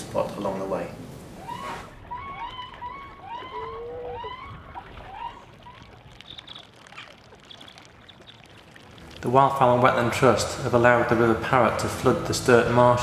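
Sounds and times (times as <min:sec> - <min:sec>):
waterbirds calling: 0:00.0 - 0:13.0.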